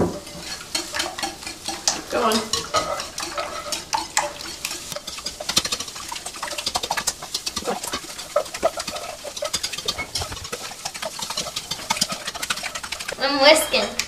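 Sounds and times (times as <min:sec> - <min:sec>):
whisk beating eggs in bowl: 0:00.0 - 0:14.0.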